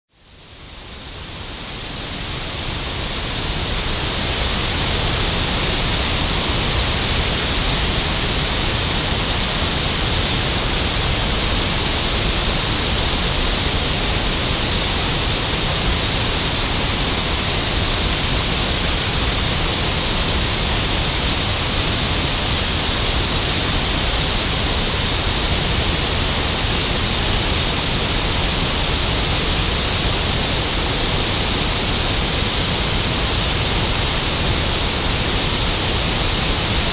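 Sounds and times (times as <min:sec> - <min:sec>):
water roaring over a dam: 0:00.3 - 0:36.9.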